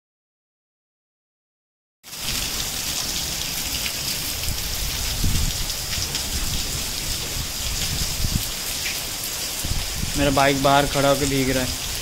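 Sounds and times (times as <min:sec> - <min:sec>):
heavy rain on pavement: 0:02.1 - 0:12.0.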